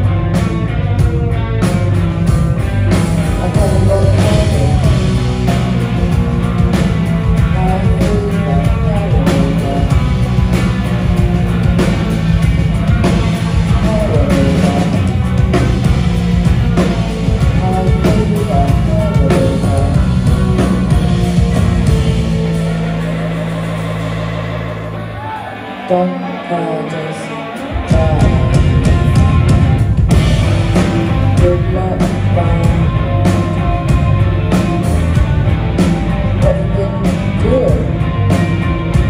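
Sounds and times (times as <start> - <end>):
bass guitar: 0.0 - 39.0
drums: 0.0 - 39.0
electric guitars: 0.0 - 39.0.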